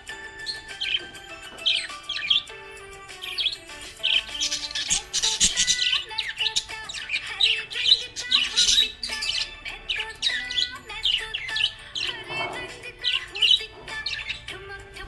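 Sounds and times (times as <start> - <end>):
budgerigar chirping and warbling: 0.0 - 14.7.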